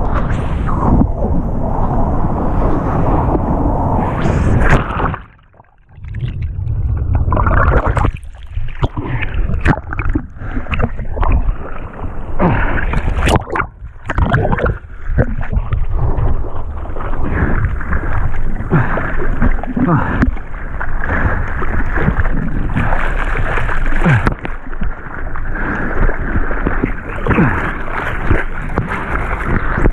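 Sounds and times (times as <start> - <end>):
water sloshing: 4.6 - 29.9.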